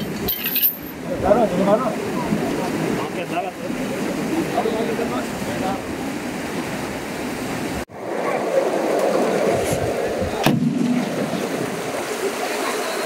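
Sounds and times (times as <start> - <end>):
water rushing at sluice gate: 0.0 - 13.0.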